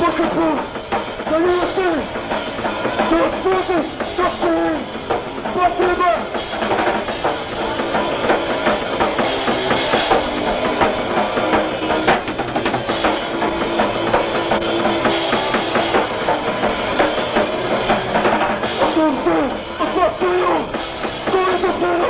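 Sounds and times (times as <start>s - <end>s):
bass guitar: 0.0s - 22.0s
distorted electric guitar: 0.0s - 22.0s
drum kit beats: 0.0s - 22.0s.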